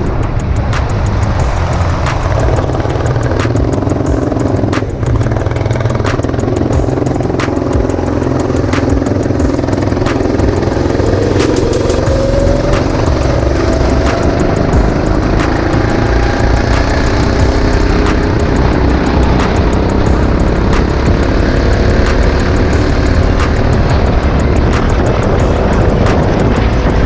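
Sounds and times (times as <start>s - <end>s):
go-kart engine running: 0.0s - 27.0s.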